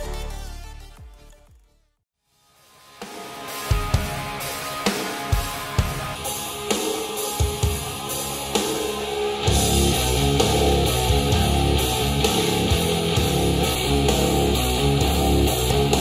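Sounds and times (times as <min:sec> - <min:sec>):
rock music through speakers: 0:02.7 - 0:16.0.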